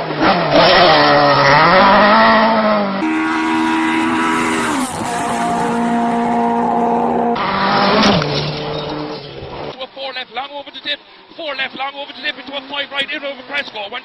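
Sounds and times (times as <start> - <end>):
rally car engines running hard: 0.0 - 14.0.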